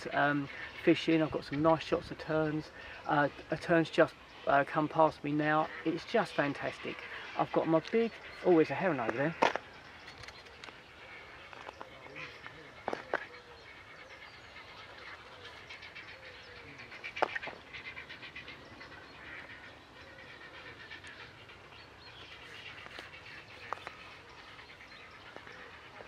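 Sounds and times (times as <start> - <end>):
wetland birds calling: 0.0 - 26.0.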